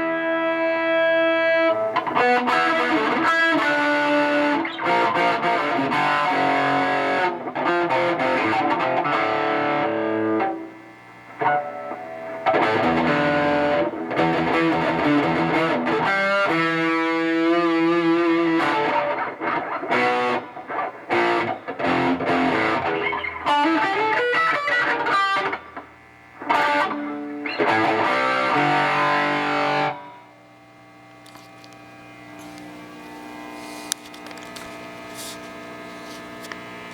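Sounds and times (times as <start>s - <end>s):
amplifier humming: 0.0s - 36.9s
distorted electric guitar: 0.0s - 36.9s.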